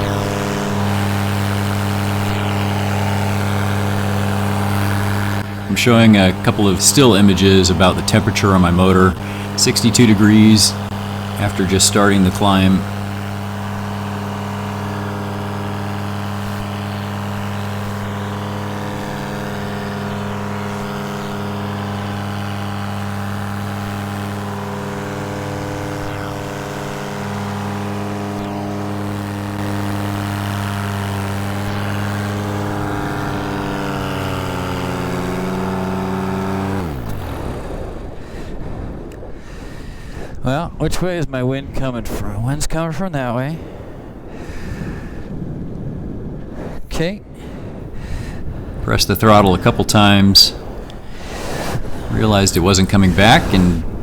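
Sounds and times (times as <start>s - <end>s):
two-stroke paramotor engine running: 0.0s - 40.5s, 43.6s - 46.4s, 47.3s - 54.0s.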